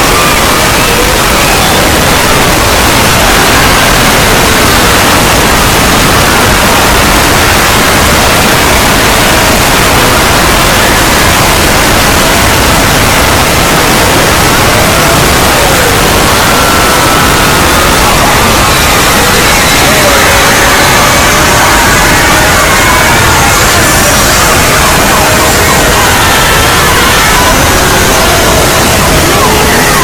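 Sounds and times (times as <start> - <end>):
faint overlapping screams: 0.0 - 30.0
loud static-like noise: 0.0 - 30.0.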